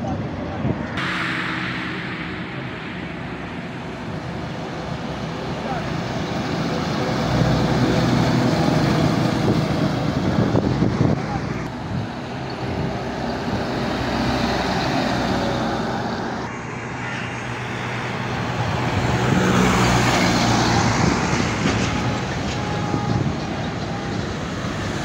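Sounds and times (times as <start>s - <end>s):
heavy trucks driving past: 0.8s - 25.0s.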